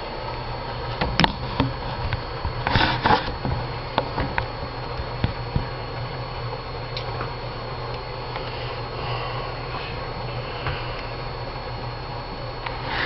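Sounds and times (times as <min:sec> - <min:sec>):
faint high whine: 0:00.0 - 0:13.0
steady low hum: 0:00.0 - 0:13.0.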